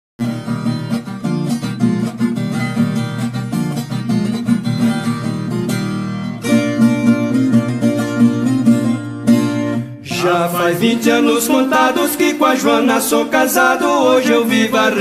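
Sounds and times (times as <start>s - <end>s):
plucked guitar notes: 0.2s - 15.0s.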